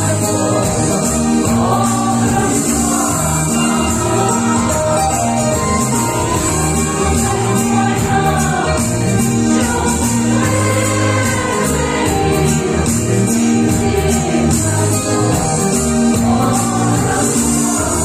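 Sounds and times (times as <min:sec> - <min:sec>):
bass line: 0:00.0 - 0:18.0
group singing a gospel hymn: 0:00.0 - 0:18.0.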